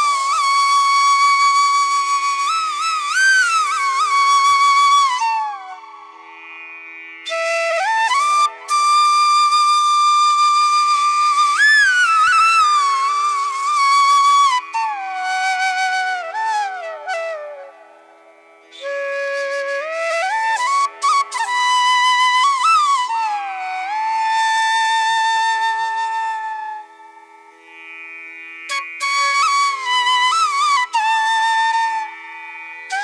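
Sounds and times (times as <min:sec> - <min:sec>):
solo flute melody: 0:00.0 - 0:06.4, 0:07.2 - 0:27.5, 0:28.7 - 0:33.0.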